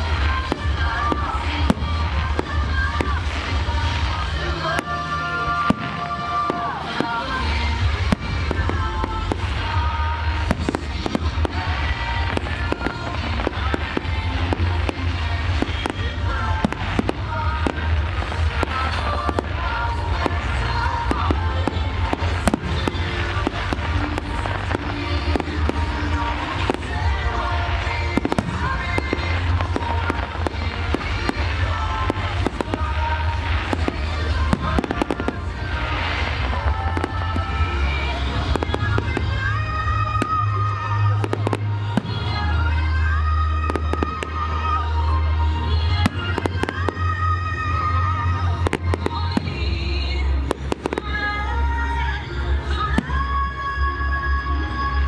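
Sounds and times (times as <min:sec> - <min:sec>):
fireworks bangs and crackles: 0:00.0 - 0:55.0
low rumble: 0:00.0 - 0:55.0
music from distant loudspeakers: 0:00.0 - 0:55.0.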